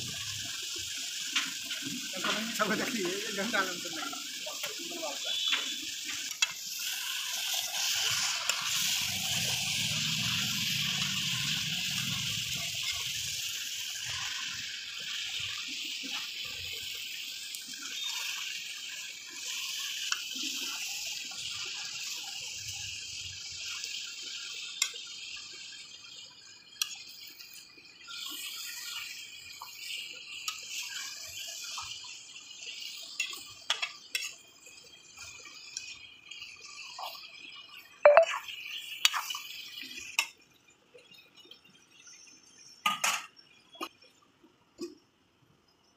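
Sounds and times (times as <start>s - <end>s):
chicken sizzling in pan: 0.0s - 44.1s.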